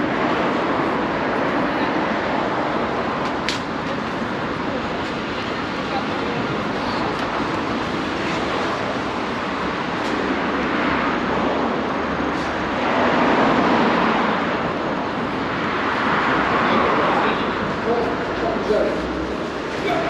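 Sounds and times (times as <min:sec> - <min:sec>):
street traffic passing: 0:00.0 - 0:20.0.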